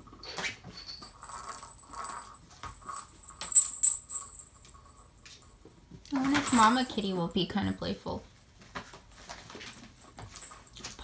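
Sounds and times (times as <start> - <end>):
small metal bell jingling: 0.0 - 11.0.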